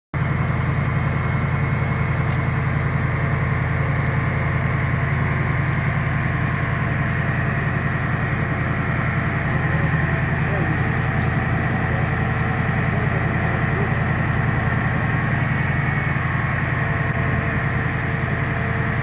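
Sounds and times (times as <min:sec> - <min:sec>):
large engine droning: 0:00.2 - 0:19.0.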